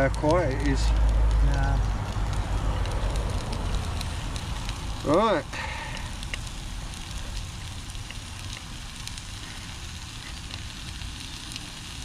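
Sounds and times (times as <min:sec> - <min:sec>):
camping stove hissing: 0:00.0 - 0:12.0
meat sizzling in a pan: 0:00.0 - 0:12.0.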